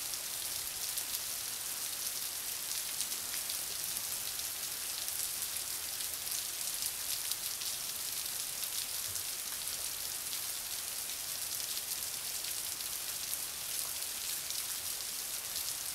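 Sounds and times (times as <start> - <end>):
heavy rain on pavement and cars: 0.0 - 15.9.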